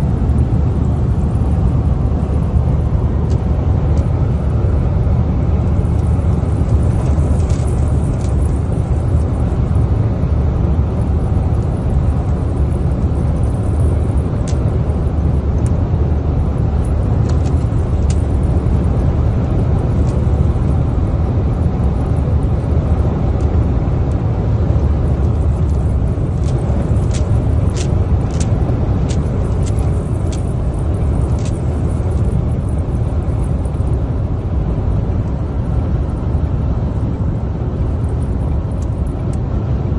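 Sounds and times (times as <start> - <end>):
car interior road rumble: 0.0 - 39.9.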